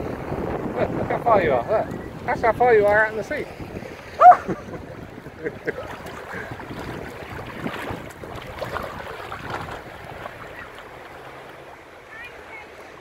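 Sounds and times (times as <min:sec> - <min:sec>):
wind on microphone: 0:00.0 - 0:11.0
small waves lapping: 0:00.0 - 0:13.0.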